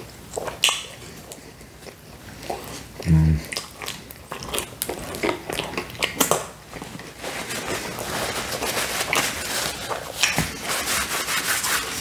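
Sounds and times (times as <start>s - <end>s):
man chewing food: 0.0s - 10.9s.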